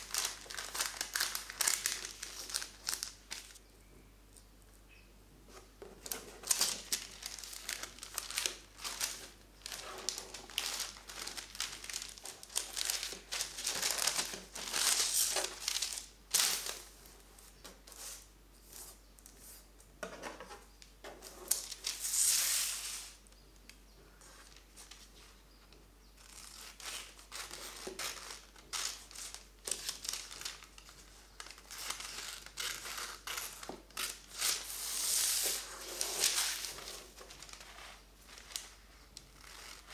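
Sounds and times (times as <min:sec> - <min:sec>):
parchment paper crinkling: 0:00.0 - 0:03.6, 0:05.5 - 0:19.6, 0:21.1 - 0:23.1, 0:26.2 - 0:39.9.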